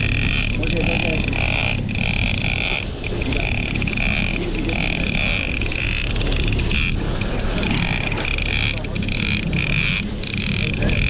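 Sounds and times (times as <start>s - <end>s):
boat engine running: 0.0s - 11.0s
fishing reel whining: 0.0s - 11.0s.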